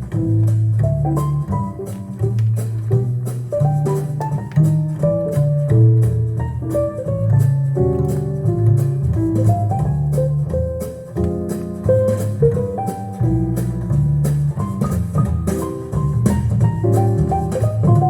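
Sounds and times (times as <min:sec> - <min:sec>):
bass line: 0:00.0 - 0:18.0.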